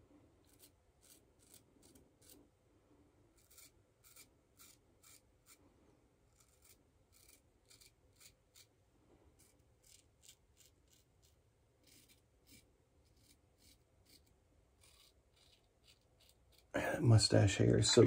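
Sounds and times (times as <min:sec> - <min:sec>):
razor scraping stubble: 0:00.4 - 0:02.5, 0:03.3 - 0:05.6, 0:06.3 - 0:18.0.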